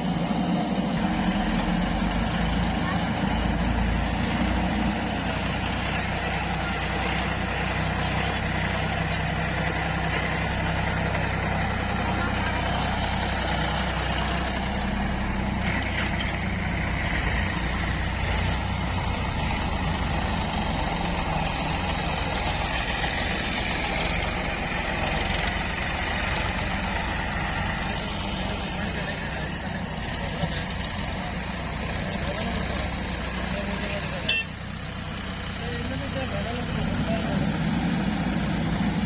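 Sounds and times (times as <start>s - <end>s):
heavy machinery diesel engine running: 0.0s - 39.0s.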